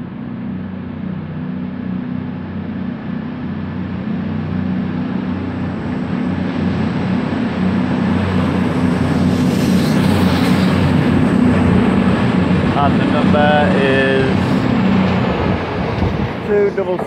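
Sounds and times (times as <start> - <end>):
diesel train engines humming: 0.0 - 17.0.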